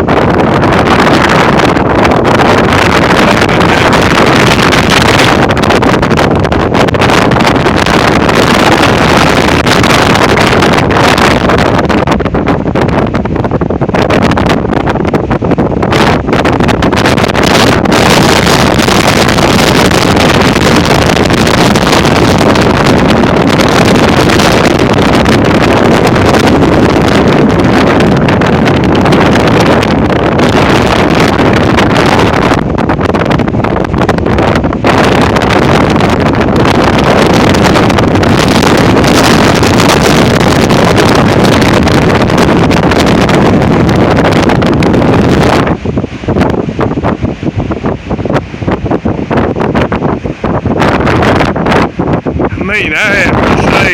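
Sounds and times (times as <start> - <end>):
strong wind blasting microphone: 0.0 - 53.9.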